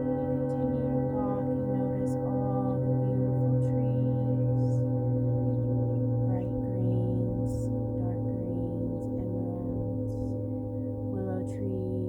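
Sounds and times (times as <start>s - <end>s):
meditation drone music: 0.0s - 12.0s.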